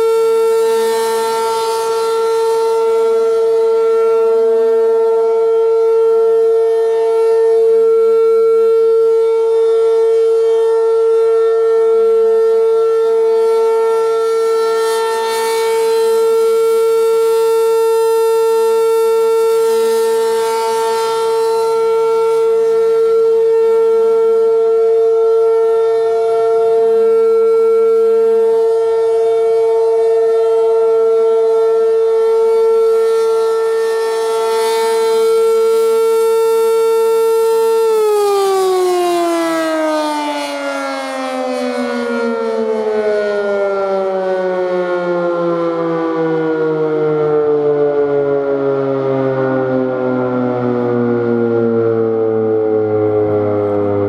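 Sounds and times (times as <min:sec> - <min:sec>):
warning siren steady tone: 0:00.0 - 0:54.0.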